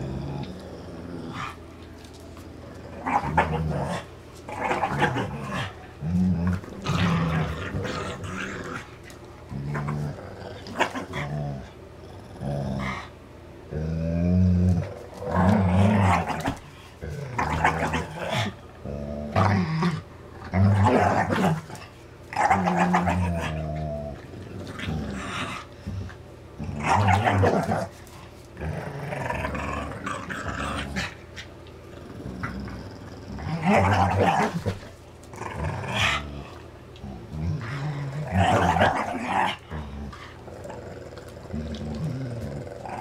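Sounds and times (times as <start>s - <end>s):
dogs growling in play: 0.0s - 43.0s.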